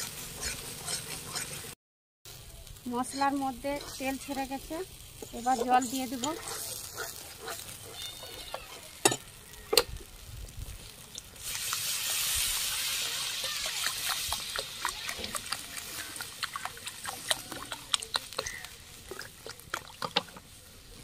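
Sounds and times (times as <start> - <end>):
hot oil hissing: 0.0 - 21.0.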